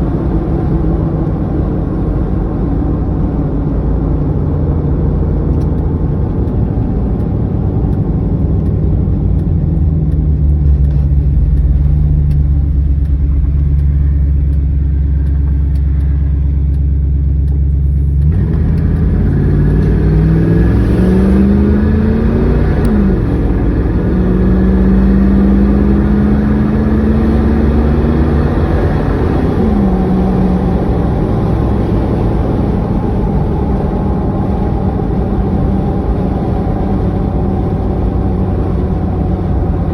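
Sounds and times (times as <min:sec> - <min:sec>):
vehicle engine accelerating: 0:00.0 - 0:39.9.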